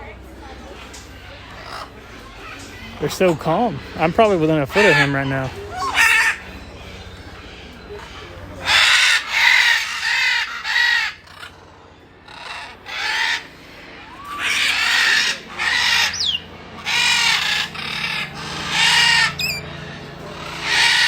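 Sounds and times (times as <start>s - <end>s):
parrots squawking: 0.5s - 21.0s.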